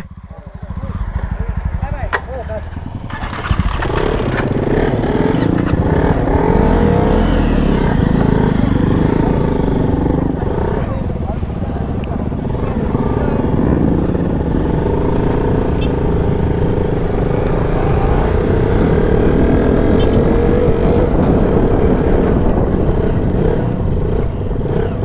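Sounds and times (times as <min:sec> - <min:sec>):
other motorcycle engines: 0:00.0 - 0:25.0
motorcycle engine riding off: 0:00.2 - 0:25.0.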